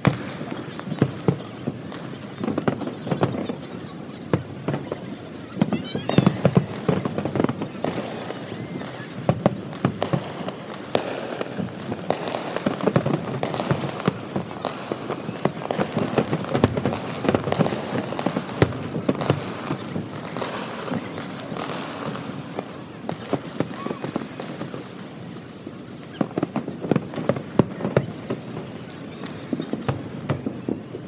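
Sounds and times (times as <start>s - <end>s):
distant fireworks bangs and crackles: 0.0s - 31.0s.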